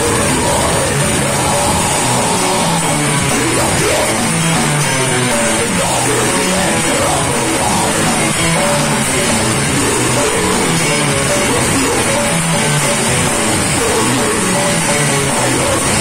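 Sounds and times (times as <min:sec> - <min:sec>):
distorted electric guitars: 0:00.0 - 0:16.0
pounding drum kit: 0:00.0 - 0:16.0.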